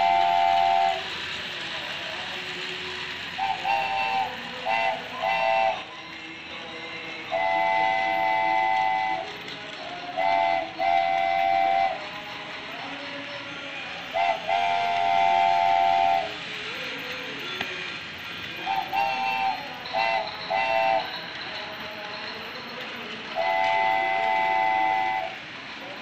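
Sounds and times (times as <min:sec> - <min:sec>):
toy train motor and wheels: 0:00.0 - 0:26.0
toy train whistle tooting: 0:00.0 - 0:26.0.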